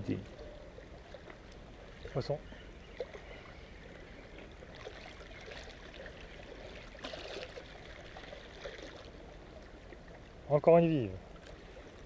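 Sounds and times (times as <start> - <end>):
small waves lapping against rocks: 0.4 - 12.0.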